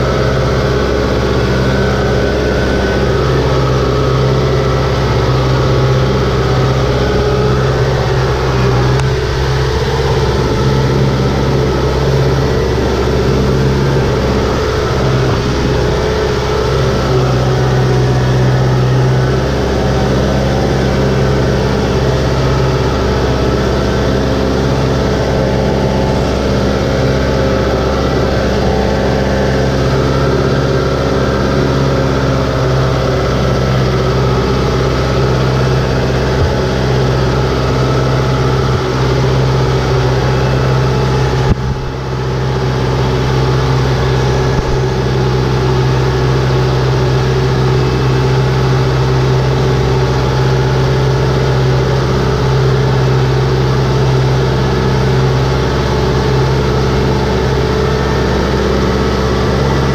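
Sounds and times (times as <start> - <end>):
tractor diesel engine running: 0.0 - 59.9
wheels churning through mud and water: 0.0 - 59.9.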